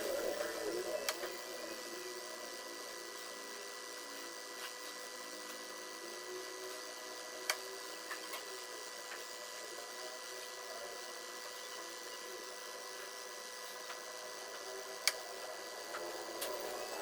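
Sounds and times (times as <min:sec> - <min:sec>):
washing machine motor humming: 0:00.0 - 0:08.0, 0:11.0 - 0:17.0.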